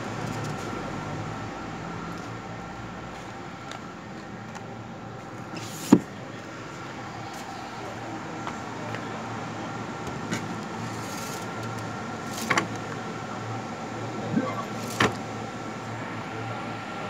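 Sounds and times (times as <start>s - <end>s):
steady background hum: 2.3s - 17.0s.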